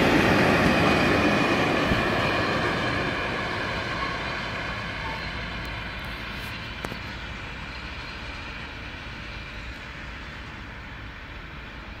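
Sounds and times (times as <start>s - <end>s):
freight train rumbling on rails: 0.0s - 12.0s.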